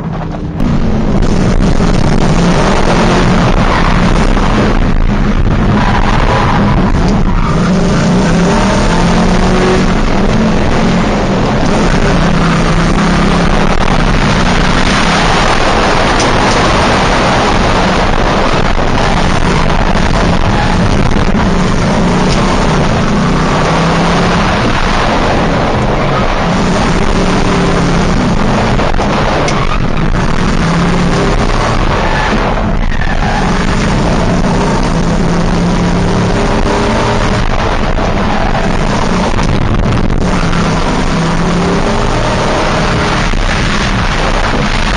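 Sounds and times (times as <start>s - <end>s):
car engine revving hard: 0.0s - 44.9s
loud rush of noise: 0.0s - 44.9s.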